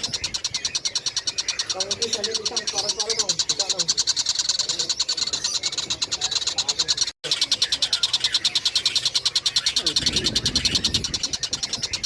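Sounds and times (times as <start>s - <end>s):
kingfisher high chipping calls: 0.0s - 12.0s.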